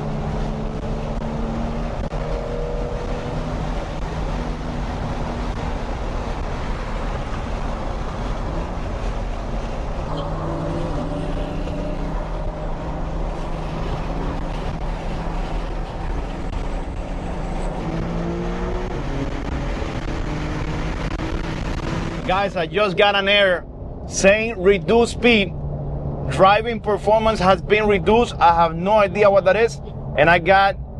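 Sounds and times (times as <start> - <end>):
car engine accelerating: 0.0 - 30.9
road noise rumble: 0.0 - 30.9.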